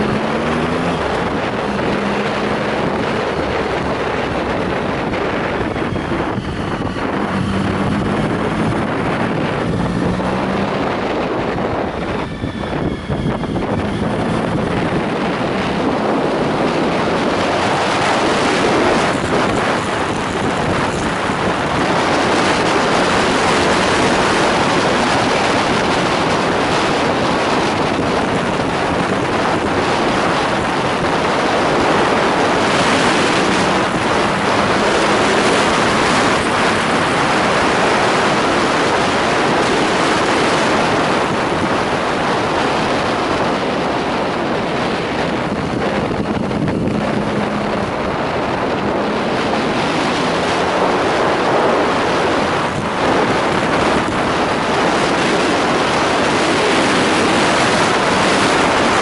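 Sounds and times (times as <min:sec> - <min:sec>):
motorcycle engine: 0:00.0 - 0:59.0
road noise: 0:00.0 - 0:59.0
wind rushing over microphone: 0:00.0 - 0:59.0.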